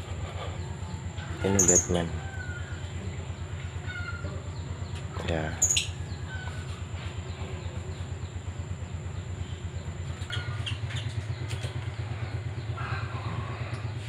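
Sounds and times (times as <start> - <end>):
motor idling with low throb: 0.0 - 14.0.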